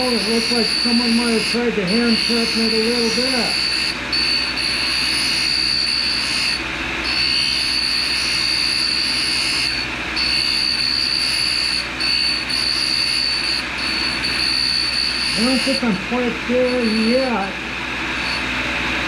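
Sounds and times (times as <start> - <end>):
grinder wheel whining: 0.0 - 19.0.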